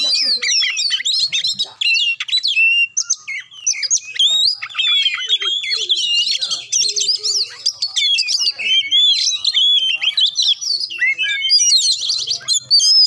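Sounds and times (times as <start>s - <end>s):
songbird singing whistles and chirps: 0.0s - 13.0s.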